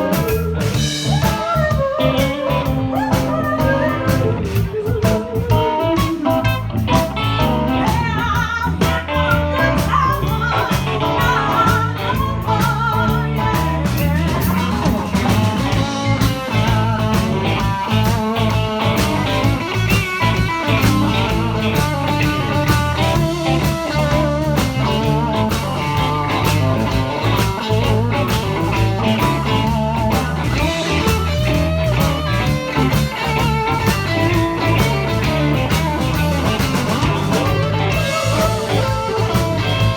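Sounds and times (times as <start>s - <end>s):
guitar lines: 0.0s - 39.9s
live blues band jamming: 0.0s - 39.9s
stepping bass: 0.0s - 39.9s.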